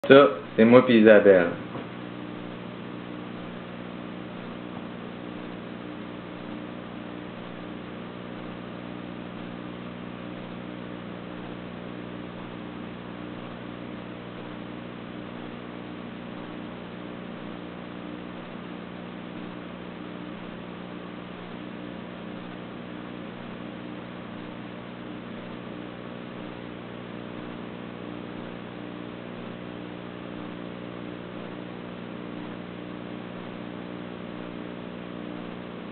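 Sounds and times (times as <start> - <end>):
electrical hum: 0.0 - 35.9.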